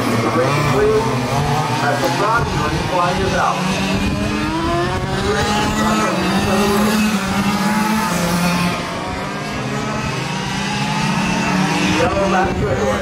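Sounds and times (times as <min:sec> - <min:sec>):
small race car engines: 0:00.0 - 0:13.0.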